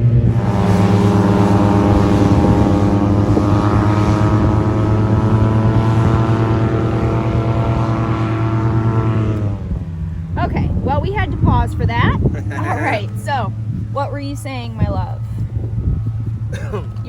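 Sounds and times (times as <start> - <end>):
loud engine drone passing: 0.0 - 17.0.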